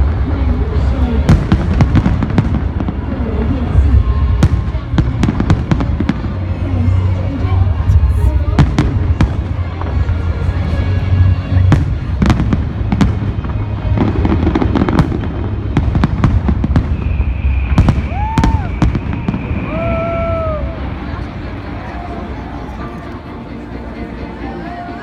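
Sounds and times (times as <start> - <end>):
fireworks bursting: 0.0 - 21.8.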